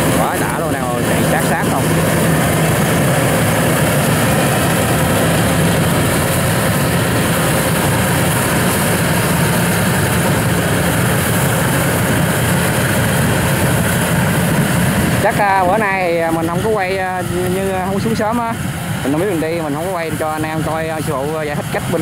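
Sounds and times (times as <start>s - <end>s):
combine harvester droning: 0.0s - 22.0s.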